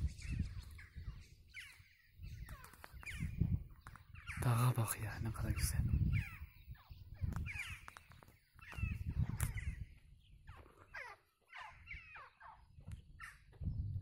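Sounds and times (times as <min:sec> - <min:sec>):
birds cawing: 0:01.5 - 0:13.6.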